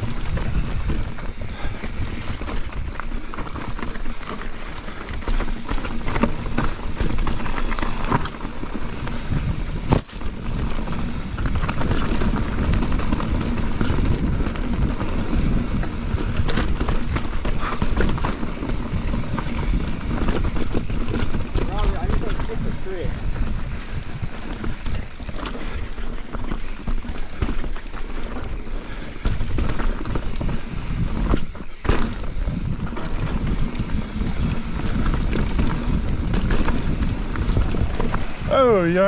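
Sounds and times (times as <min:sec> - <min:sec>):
wind on microphone: 0:00.0 - 0:04.2, 0:05.1 - 0:39.0
bike chain and frame clatter: 0:00.0 - 0:39.0
tyres crunching over dirt: 0:00.0 - 0:39.0.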